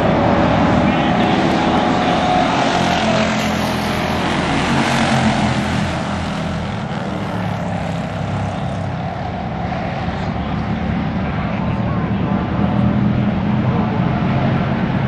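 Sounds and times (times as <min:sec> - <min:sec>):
race car engines passing by: 0:00.0 - 0:15.0.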